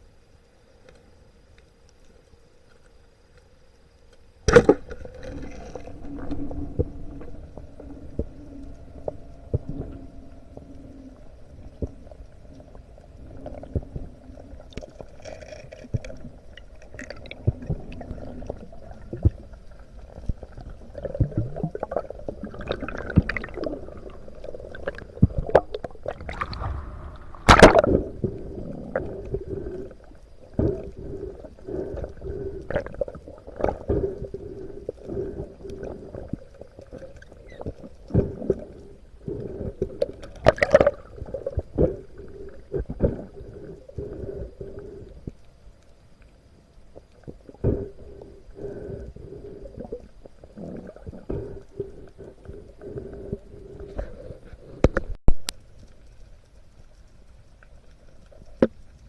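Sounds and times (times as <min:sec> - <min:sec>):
underwater gurgling and bubbling: 0:04.5 - 0:45.5, 0:46.4 - 0:55.4.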